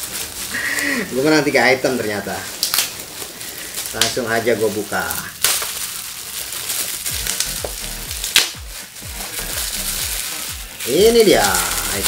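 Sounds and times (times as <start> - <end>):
packaging crinkling and rustling: 0.0 - 12.0
sharp crackles: 0.0 - 12.0.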